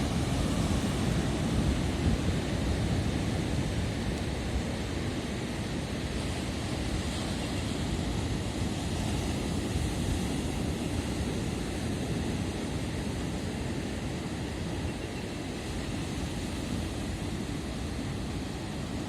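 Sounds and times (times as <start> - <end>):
sea surf washing in: 0.0 - 19.0
wind rumbling on microphone: 0.0 - 19.0.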